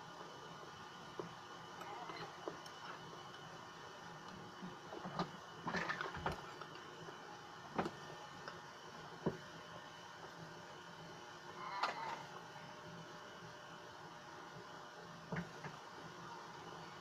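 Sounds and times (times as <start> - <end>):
faint background hum: 0.0 - 17.0.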